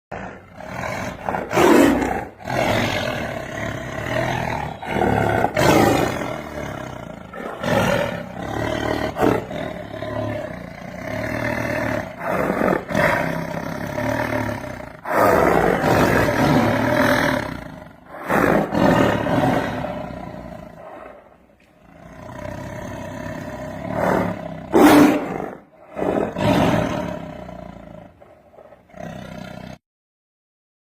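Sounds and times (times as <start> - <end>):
tiger roaring: 0.2 - 29.8.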